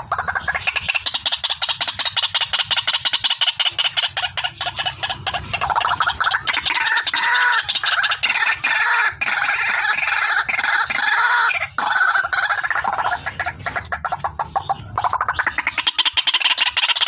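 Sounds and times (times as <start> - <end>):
bird calling harsh pulsed notes: 0.0 - 17.0.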